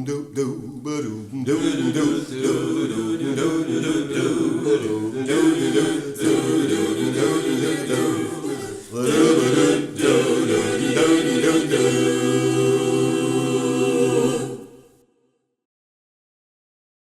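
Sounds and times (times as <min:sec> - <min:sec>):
choir singing a cappella: 0:00.4 - 0:15.1.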